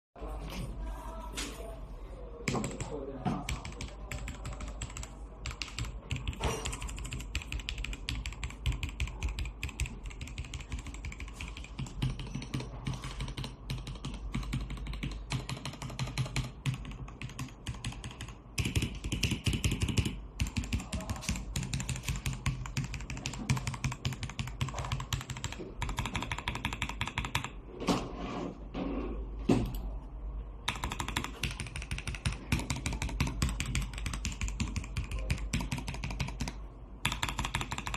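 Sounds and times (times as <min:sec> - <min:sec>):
mechanical keyboard typing: 0:02.4 - 0:27.6, 0:30.6 - 0:37.9.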